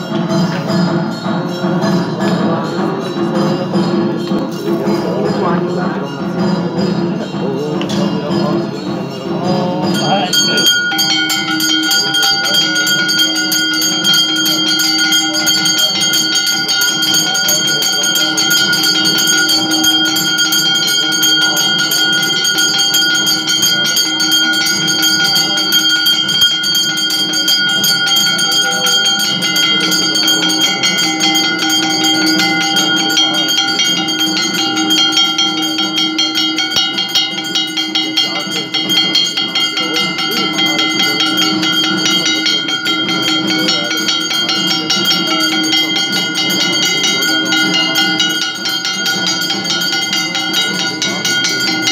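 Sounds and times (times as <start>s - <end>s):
temple bells ringing rapidly: 0.0s - 51.9s.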